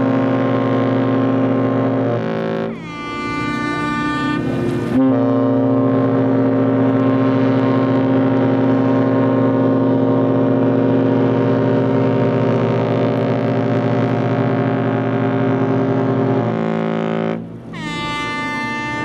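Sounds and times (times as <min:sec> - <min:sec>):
ship's horn blast: 0:00.0 - 0:19.0.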